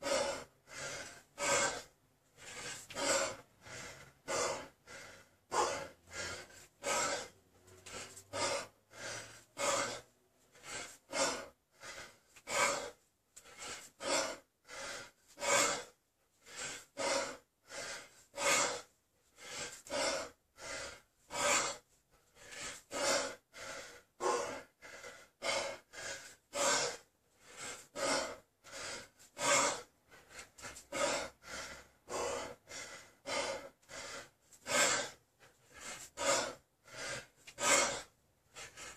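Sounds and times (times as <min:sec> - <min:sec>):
man breathing hard: 0:00.0 - 0:38.9.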